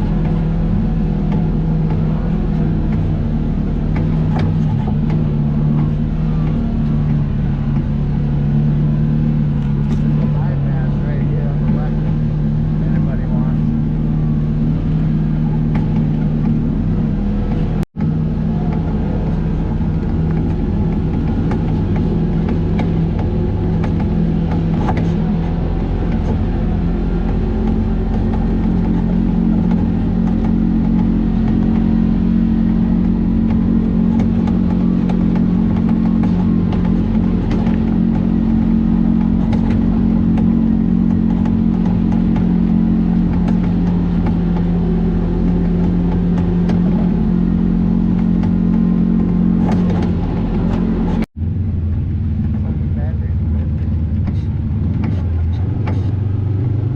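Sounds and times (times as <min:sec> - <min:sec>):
vehicle engine drone: 0:00.0 - 0:56.9.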